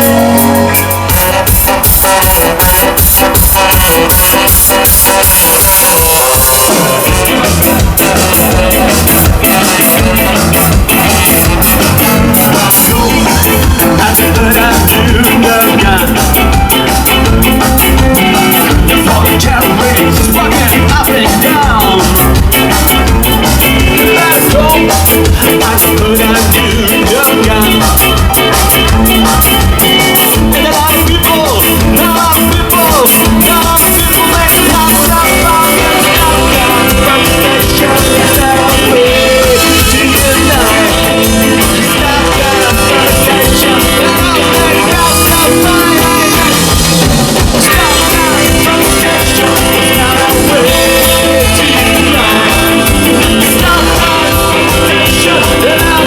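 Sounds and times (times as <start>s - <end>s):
ska band playing live: 0.0s - 56.0s.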